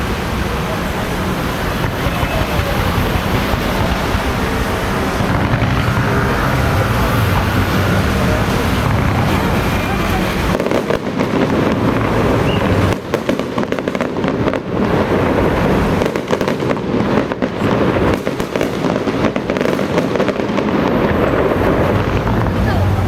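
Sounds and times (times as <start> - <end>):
firecrackers crackling: 0.0 - 23.0.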